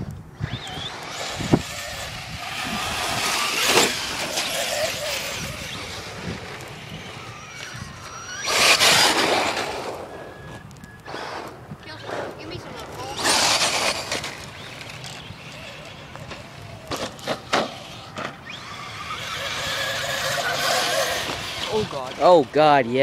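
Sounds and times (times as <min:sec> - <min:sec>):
toy truck motor whining: 0:00.4 - 0:23.0.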